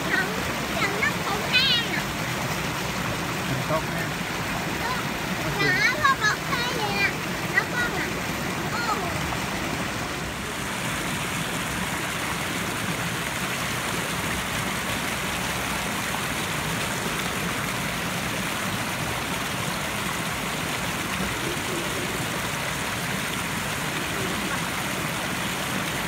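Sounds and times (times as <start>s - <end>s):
water rushing over weir: 0.0s - 26.0s.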